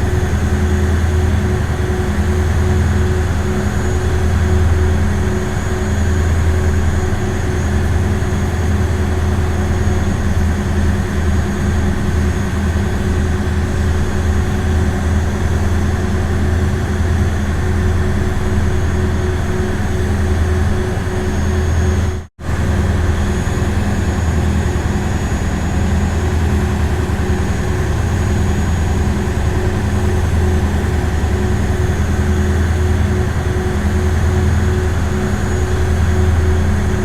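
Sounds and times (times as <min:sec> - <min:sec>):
boat motor droning: 0:00.0 - 0:37.0.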